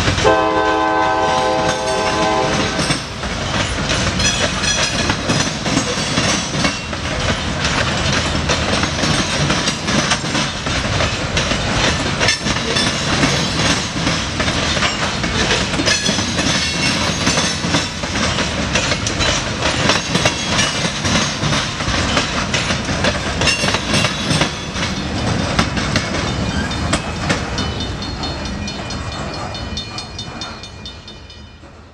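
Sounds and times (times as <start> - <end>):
freight train rumble: 0.0 - 31.9
wheels clacking over rail joints: 0.0 - 31.9.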